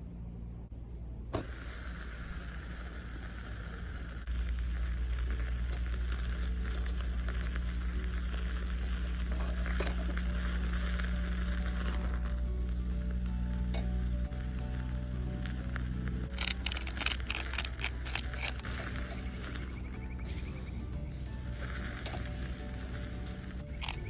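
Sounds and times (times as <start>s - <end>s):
low background music: 0.0s - 24.0s
steak sizzling over fire: 1.4s - 24.0s.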